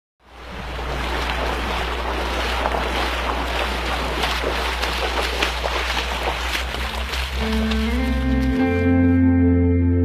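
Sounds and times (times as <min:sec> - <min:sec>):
floodwater rushing: 0:00.2 - 0:09.0.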